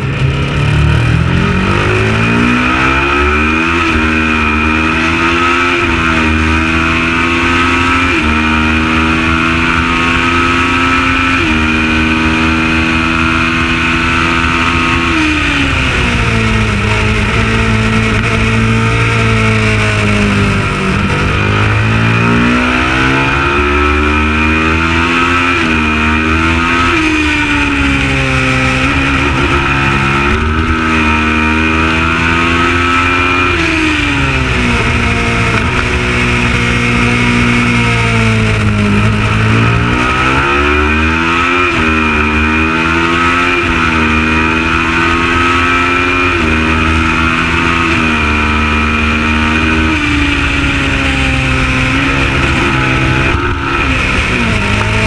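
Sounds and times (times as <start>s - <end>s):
race motorcycle engine: 0.0s - 55.0s.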